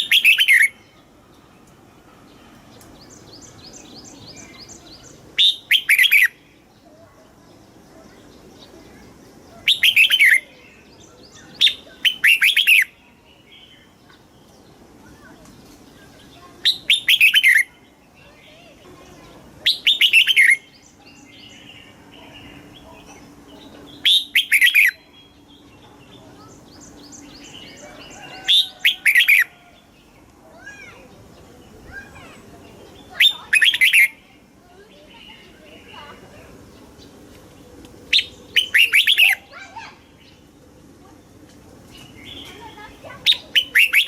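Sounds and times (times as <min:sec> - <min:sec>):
bulbul singing: 0:00.0 - 0:01.2, 0:02.3 - 0:15.3, 0:15.9 - 0:41.2, 0:41.9 - 0:44.0
faint bird chirps: 0:00.0 - 0:01.5, 0:02.3 - 0:44.0.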